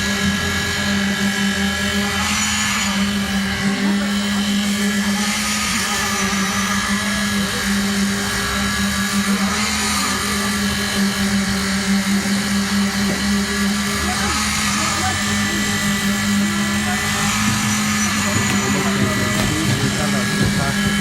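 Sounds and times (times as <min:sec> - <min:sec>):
concrete pump engine drone: 0:00.0 - 0:21.0.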